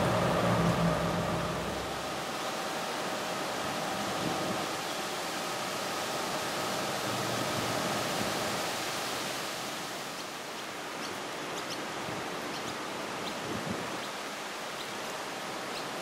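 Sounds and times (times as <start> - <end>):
rushing hiss of outdoor ambience: 0.0 - 16.0.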